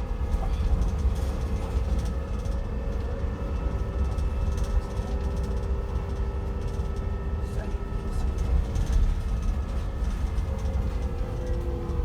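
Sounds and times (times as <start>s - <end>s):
low rumble of moving bus: 0.0s - 12.0s.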